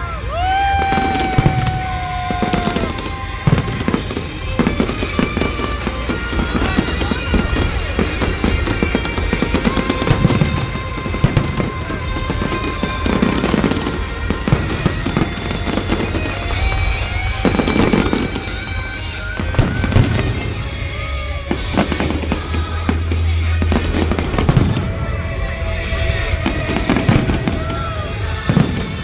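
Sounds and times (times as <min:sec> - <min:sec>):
fireworks crackling: 0:00.0 - 0:29.0
music playing: 0:00.0 - 0:29.0
firework shells bursting: 0:01.0 - 0:29.0.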